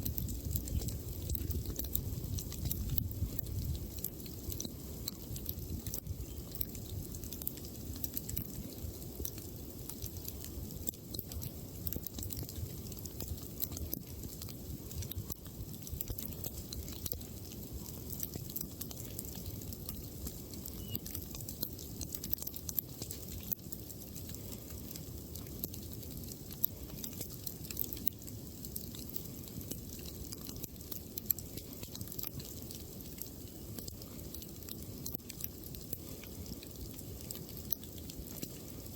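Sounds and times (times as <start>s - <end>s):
campfire crackling and popping: 0.0s - 38.9s
steady low rumble: 0.0s - 38.9s.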